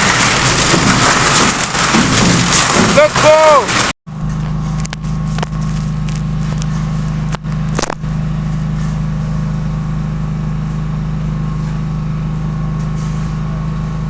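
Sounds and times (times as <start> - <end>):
concrete mixer humming: 0.0 - 14.0.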